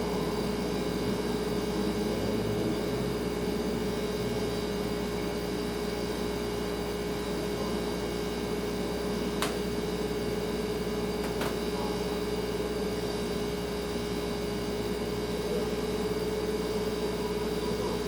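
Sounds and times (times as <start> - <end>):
refrigerator humming: 0.0 - 18.0.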